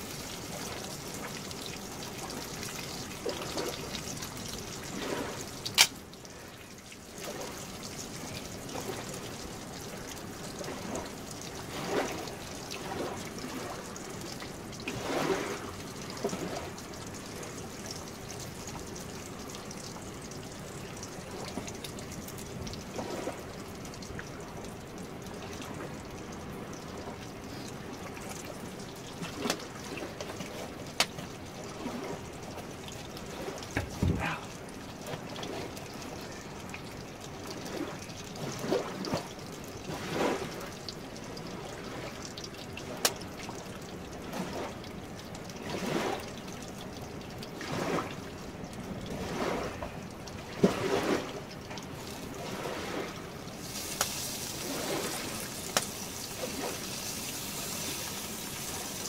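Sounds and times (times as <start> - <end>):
river water running: 0.0 - 59.0.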